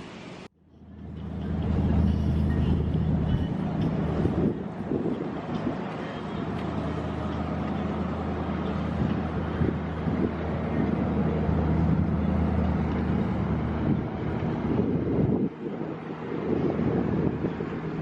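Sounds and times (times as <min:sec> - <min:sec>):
low engine drone: 0:00.0 - 0:18.0
wind noise on microphone: 0:00.9 - 0:18.0.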